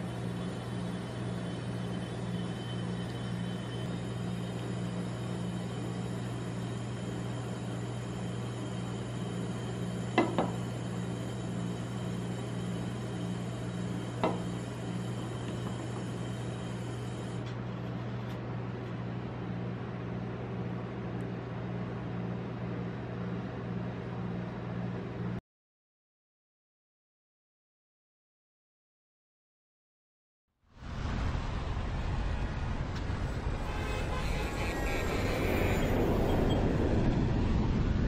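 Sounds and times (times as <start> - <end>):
low hum: 0.0 - 23.7, 30.8 - 38.0.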